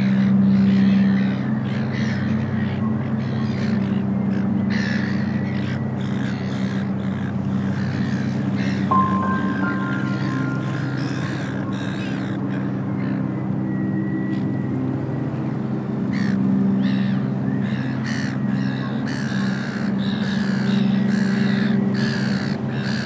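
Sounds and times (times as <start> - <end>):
bird calling: 0.0 - 23.0
steady low drone: 0.0 - 23.0.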